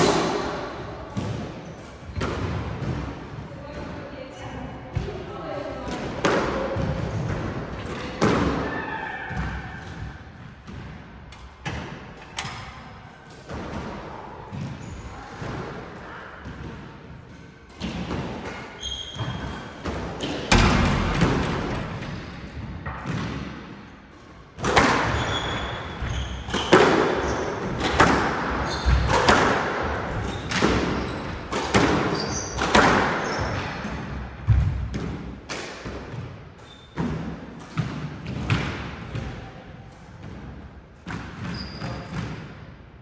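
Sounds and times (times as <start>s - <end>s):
squash ball hits echoing: 0.0s - 4.1s, 4.9s - 23.9s, 24.6s - 39.5s.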